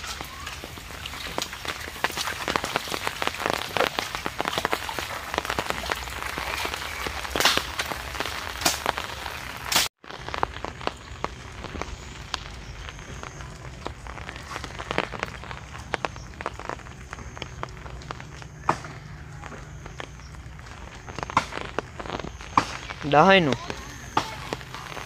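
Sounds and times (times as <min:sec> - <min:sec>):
wet leaves and twigs rustling: 0:00.0 - 0:25.0.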